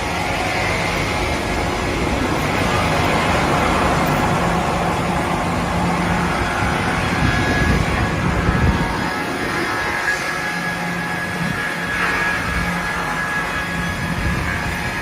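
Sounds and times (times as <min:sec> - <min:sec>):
circular saw running: 0:00.0 - 0:15.0
low hum: 0:00.0 - 0:15.0.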